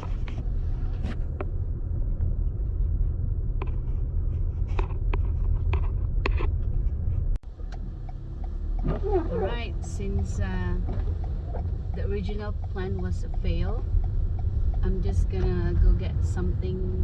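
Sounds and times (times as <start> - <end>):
car road rumble inside cabin: 0.0 - 17.0.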